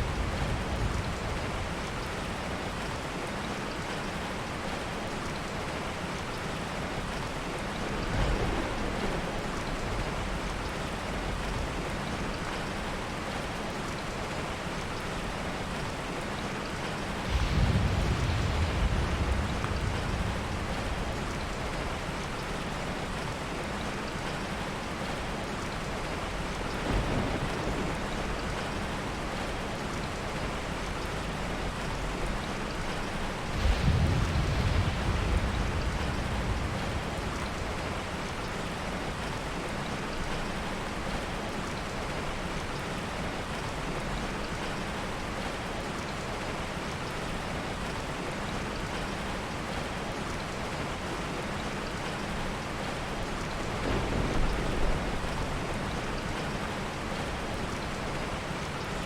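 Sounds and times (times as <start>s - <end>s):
soft thunder rumble: 0.0s - 4.9s, 5.7s - 44.7s, 50.7s - 59.0s
heavy rain falling: 0.0s - 59.0s.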